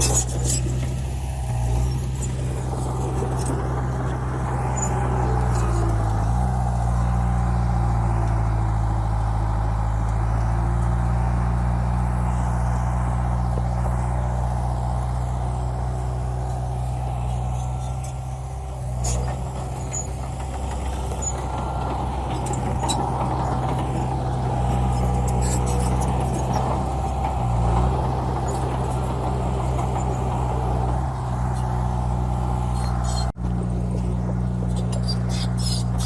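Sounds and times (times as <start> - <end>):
diesel truck engine droning: 0.0 - 36.0.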